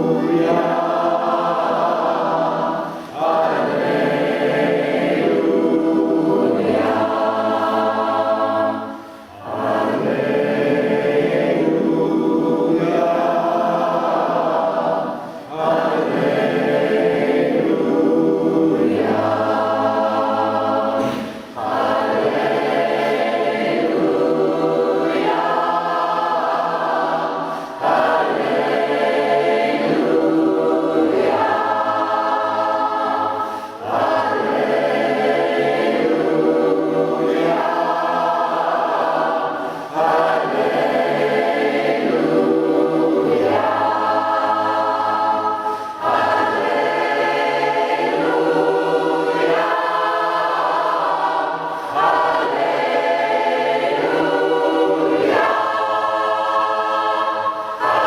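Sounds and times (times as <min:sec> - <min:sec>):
choir singing in parts: 0:00.0 - 0:58.0.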